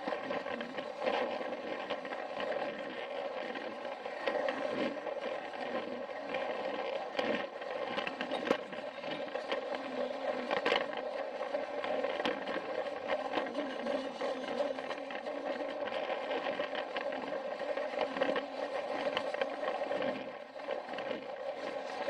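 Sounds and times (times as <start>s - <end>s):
toy train motor whirring: 0.0s - 22.0s.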